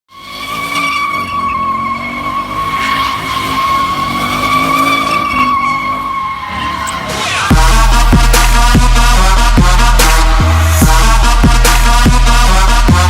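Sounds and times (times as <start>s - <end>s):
car engine revving: 0.1s - 13.0s
car tires squealing: 0.1s - 13.0s.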